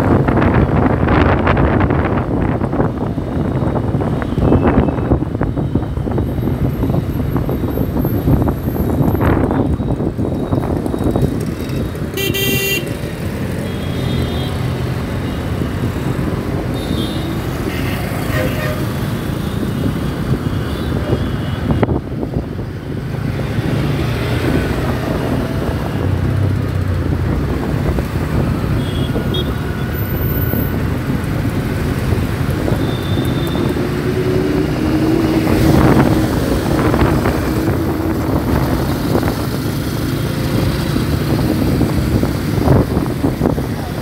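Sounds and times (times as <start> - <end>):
wind on microphone: 0.0 - 12.2, 14.5 - 44.0
surrounding traffic: 0.0 - 44.0.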